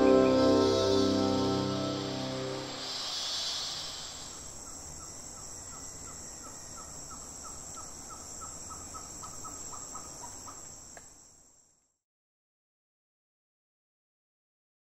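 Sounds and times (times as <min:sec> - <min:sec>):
high insect hiss: 0:00.0 - 0:12.0
insect trill: 0:00.0 - 0:12.0.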